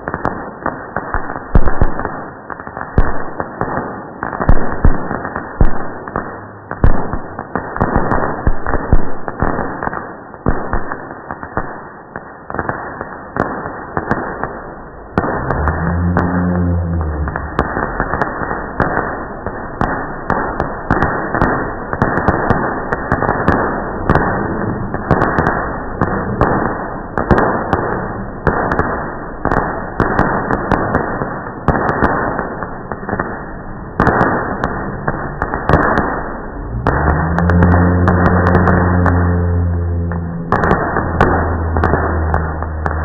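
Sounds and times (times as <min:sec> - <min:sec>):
slowed fireworks rumble: 0:00.0 - 0:43.0.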